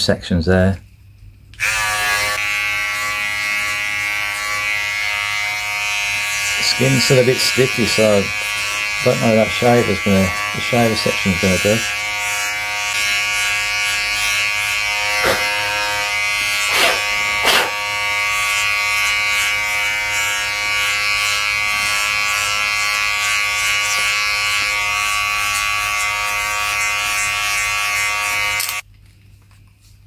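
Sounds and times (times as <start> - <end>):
electric trimmer buzzing: 1.6 - 28.8.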